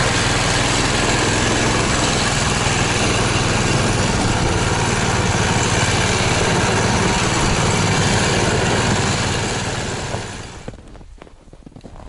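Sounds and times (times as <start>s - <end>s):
snow vehicle engine running: 0.0s - 12.0s.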